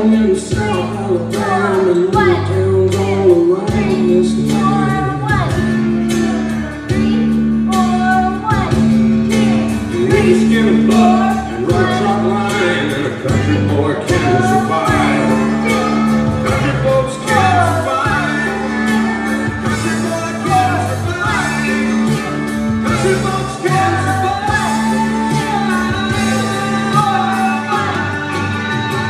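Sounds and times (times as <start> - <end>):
country song with guitar: 0.0 - 29.0.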